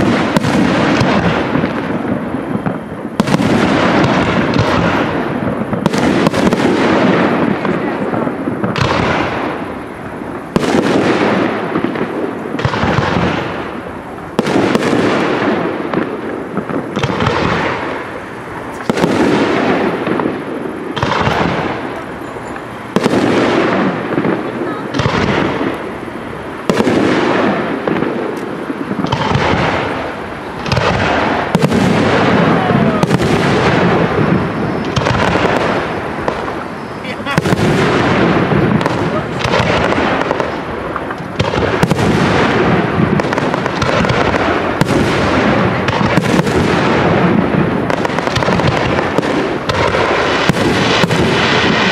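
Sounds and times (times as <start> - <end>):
firework shells bursting: 0.0 - 51.9.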